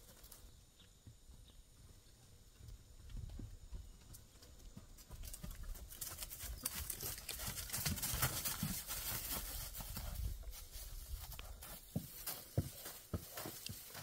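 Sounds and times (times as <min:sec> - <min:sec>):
hooves treading on wood-chip mulch: 0:00.0 - 0:14.0.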